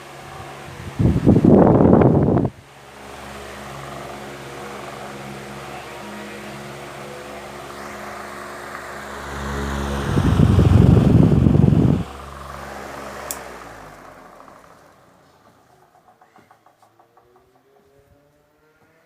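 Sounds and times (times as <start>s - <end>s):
fan airflow rumbling on microphone: 0.0s - 18.6s
fan motor humming: 0.0s - 19.0s.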